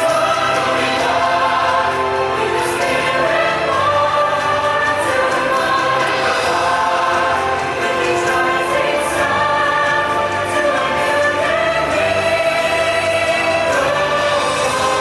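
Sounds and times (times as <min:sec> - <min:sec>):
choir singing held chords: 0:00.0 - 0:15.0
orchestral music: 0:00.0 - 0:15.0.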